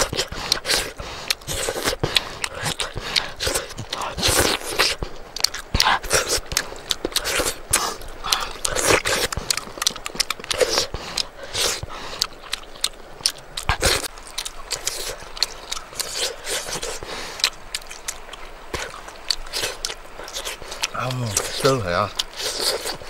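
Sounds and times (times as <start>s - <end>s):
lips smacking: 0.0s - 23.0s
mouth chewing: 0.0s - 23.0s.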